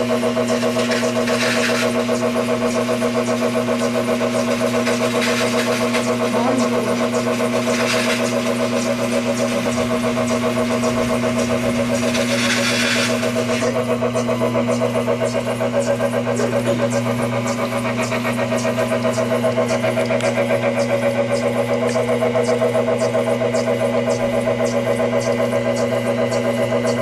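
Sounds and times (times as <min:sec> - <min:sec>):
bevelling machine motor hum: 0:00.0 - 0:27.0.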